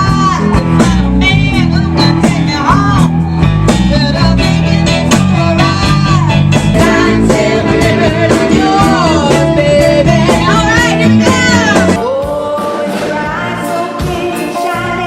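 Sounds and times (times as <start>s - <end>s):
person singing: 0.0s - 15.0s
rock song: 0.0s - 15.0s.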